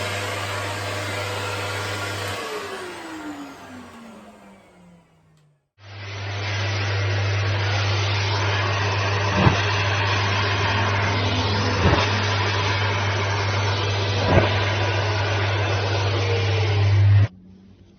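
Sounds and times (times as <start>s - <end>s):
vacuum cleaner running: 0.0s - 17.3s.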